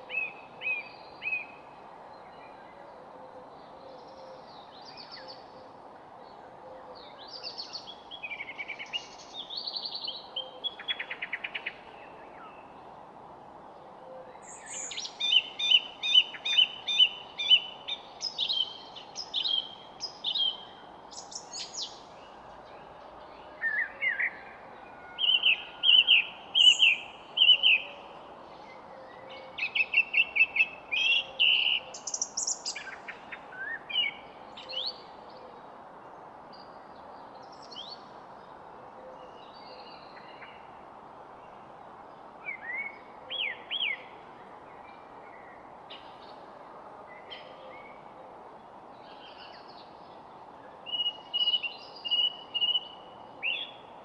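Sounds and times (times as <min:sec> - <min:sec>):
songbirds singing: 0:00.0 - 0:13.1, 0:14.3 - 0:46.5, 0:47.1 - 0:54.0
faint background hiss: 0:00.0 - 0:54.0.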